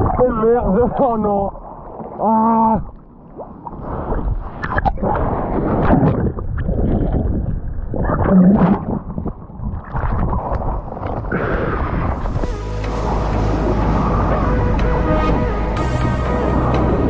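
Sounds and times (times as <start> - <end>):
muffled churning water underwater: 0.0 - 17.0
water splashing and gurgling: 0.0 - 17.0.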